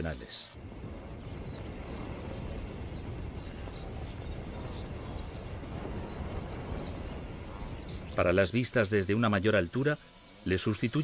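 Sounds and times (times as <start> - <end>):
steady low rumble: 0.6 - 9.6
bird chirping: 1.2 - 11.0.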